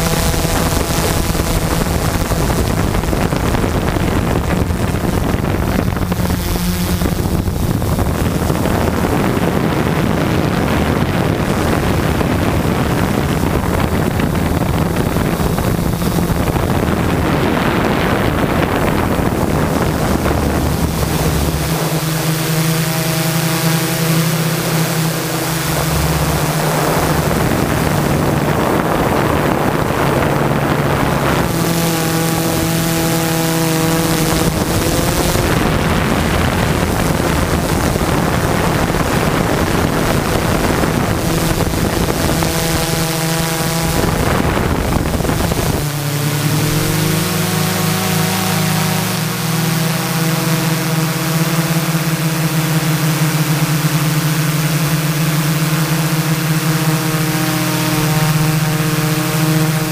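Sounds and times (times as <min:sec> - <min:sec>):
quadcopter motors droning: 0:00.0 - 0:59.9
wind rushing over microphone: 0:00.0 - 0:59.9.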